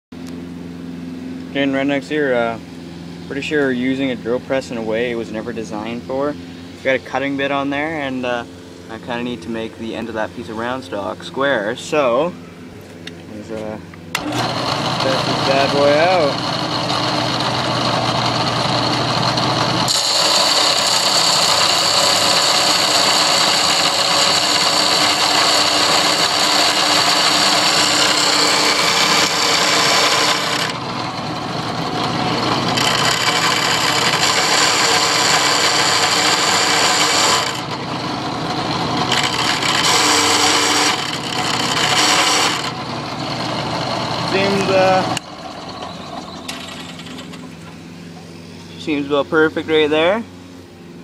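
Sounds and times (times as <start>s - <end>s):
motor running hum: 0.2s - 51.0s.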